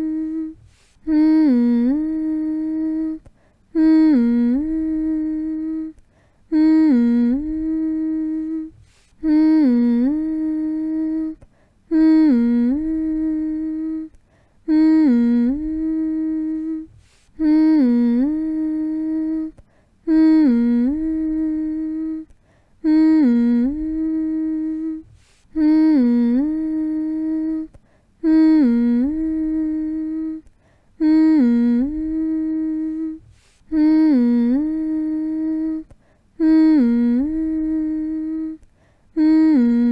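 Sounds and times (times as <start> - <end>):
person humming: 0.0 - 39.9.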